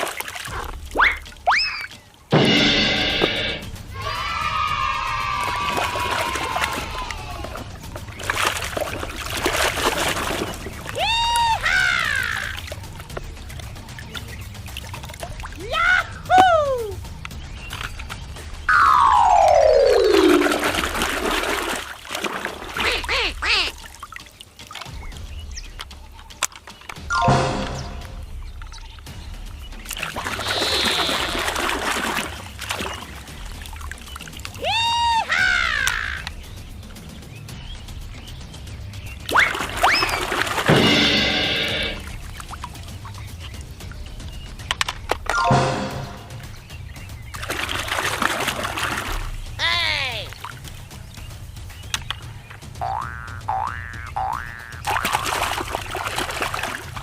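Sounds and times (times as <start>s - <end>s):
water pouring and splashing: 0.0s - 57.0s.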